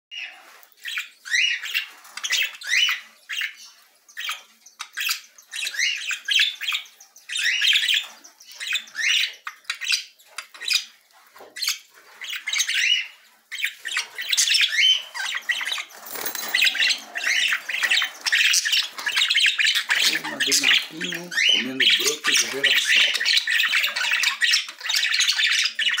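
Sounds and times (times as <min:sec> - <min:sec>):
budgerigars chirping: 0:00.1 - 0:26.0.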